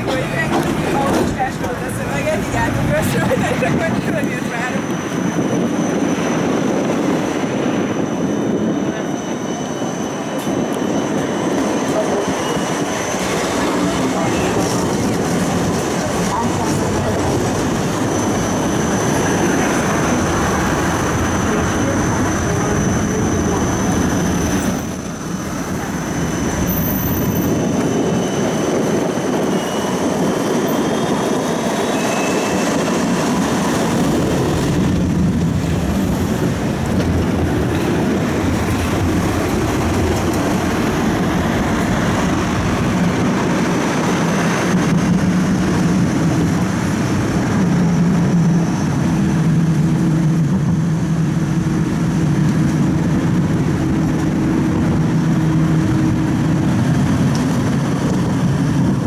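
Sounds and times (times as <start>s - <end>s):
tram wheels rumbling on rails: 0.0s - 59.0s.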